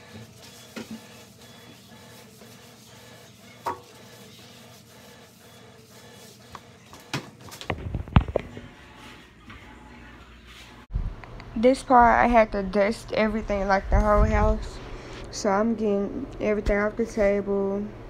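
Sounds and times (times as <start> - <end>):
faint background music: 0.2 - 10.9, 11.5 - 18.0.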